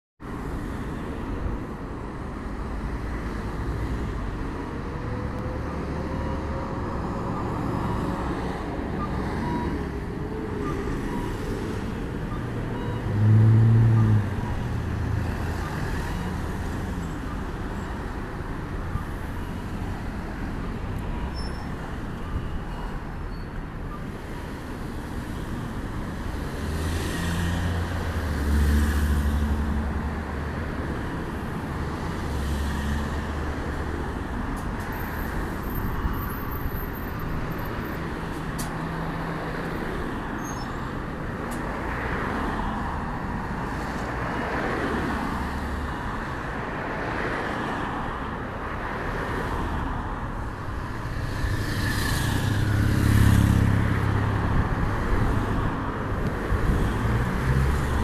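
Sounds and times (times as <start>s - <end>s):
road traffic rumble: 0.2s - 58.0s.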